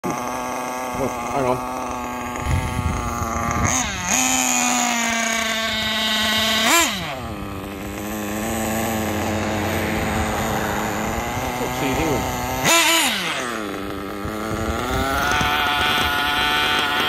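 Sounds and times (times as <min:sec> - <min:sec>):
rc car engine buzzing: 0:00.0 - 0:17.0.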